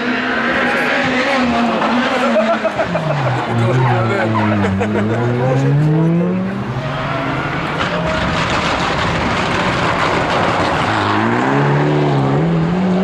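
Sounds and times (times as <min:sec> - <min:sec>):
loud rough car engine: 0:00.0 - 0:13.0
rally car engine revving: 0:00.0 - 0:13.0.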